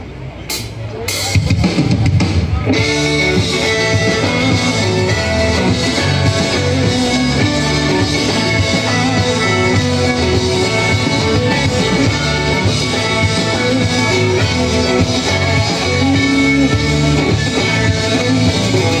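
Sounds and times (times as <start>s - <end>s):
live country band playing: 1.2s - 19.0s
electric guitar: 2.6s - 19.0s.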